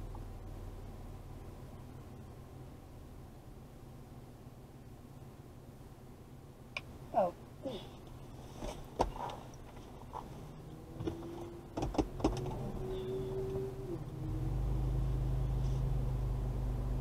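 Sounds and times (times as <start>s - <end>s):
car rumble: 0.0s - 17.0s.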